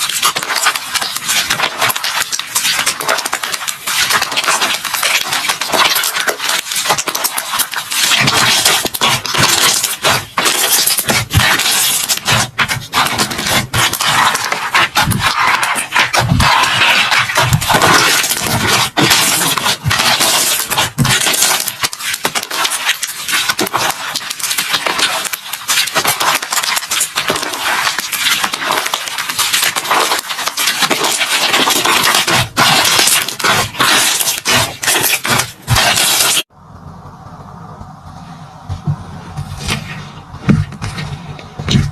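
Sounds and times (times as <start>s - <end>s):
slime crackling and popping: 0.0s - 36.5s.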